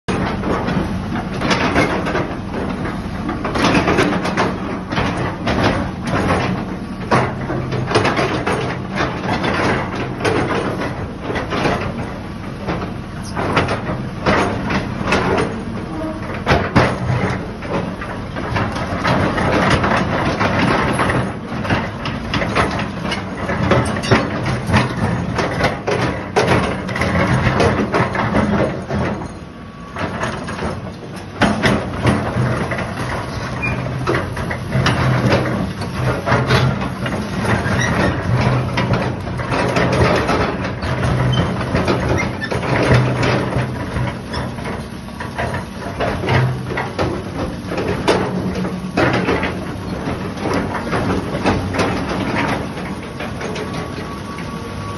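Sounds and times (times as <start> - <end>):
excavator diesel engine hum: 0.1 - 54.9
excavator tracks clanking: 0.1 - 54.9.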